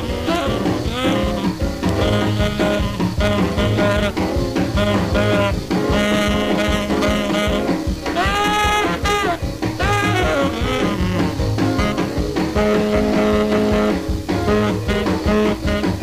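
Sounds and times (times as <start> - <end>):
swing band instrumental: 0.0 - 16.0.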